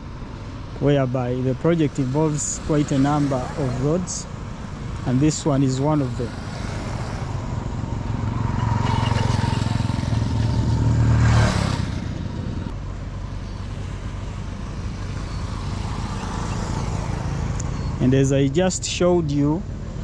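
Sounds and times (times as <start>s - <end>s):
steady engine hum: 0.0s - 20.0s
vehicle passing by: 0.8s - 20.0s.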